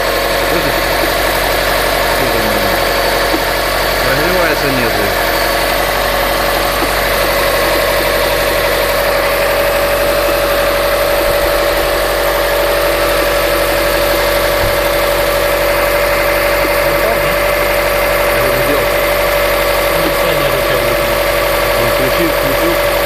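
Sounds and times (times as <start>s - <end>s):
car engine idling: 0.0s - 23.0s
engine knocking: 0.0s - 23.0s
steady high-pitched tone: 0.0s - 23.0s.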